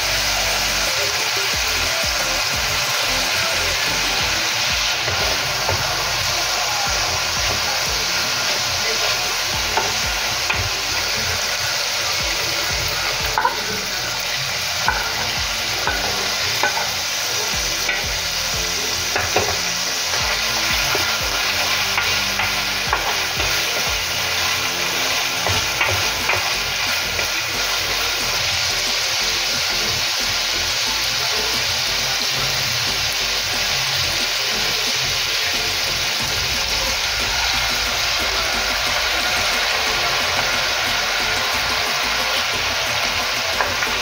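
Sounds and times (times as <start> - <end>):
meat sizzling in a frying pan: 0.0 - 44.0.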